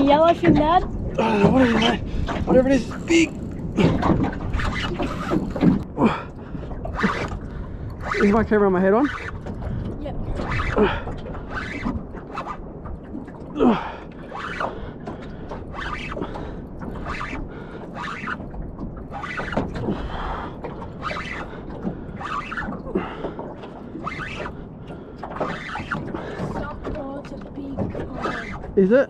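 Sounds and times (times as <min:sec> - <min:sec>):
water noise: 0:00.0 - 0:29.0
wind: 0:00.0 - 0:29.0.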